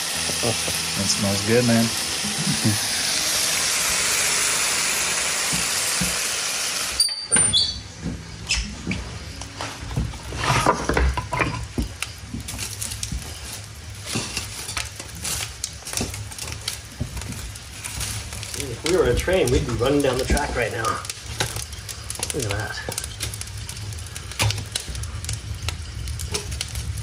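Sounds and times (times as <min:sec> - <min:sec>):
sizzling hiss: 0:00.0 - 0:27.0
wood fire crackling: 0:00.0 - 0:27.0.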